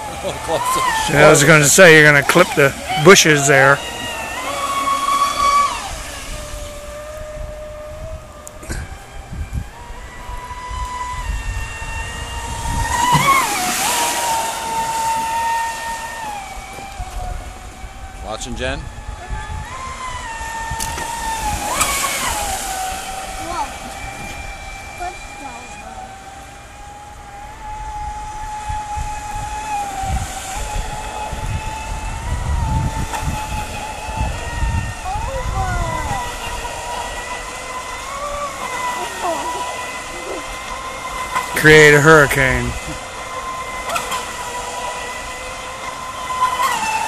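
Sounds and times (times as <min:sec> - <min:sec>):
electric motor whining: 0:00.0 - 0:47.0
wind rumbling on microphone: 0:00.0 - 0:47.0.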